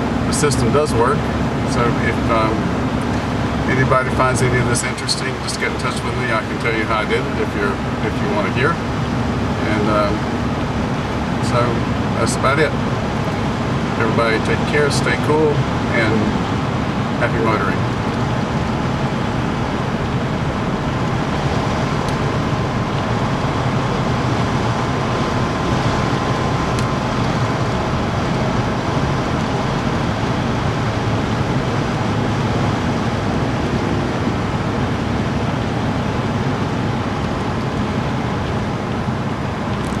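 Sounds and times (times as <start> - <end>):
car engine cruising: 0.0 - 40.0
road noise: 0.0 - 40.0.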